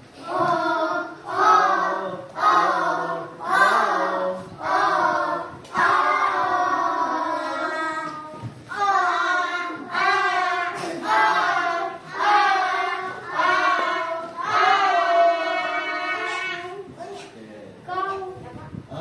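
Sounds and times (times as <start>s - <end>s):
children singing in unison: 0.2s - 16.9s.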